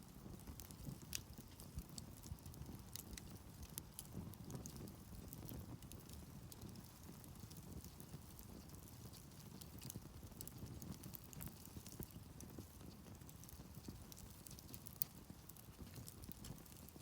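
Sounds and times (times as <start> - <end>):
campfire crackling and popping: 0.0 - 17.0
soft low fire rumble: 0.0 - 17.0.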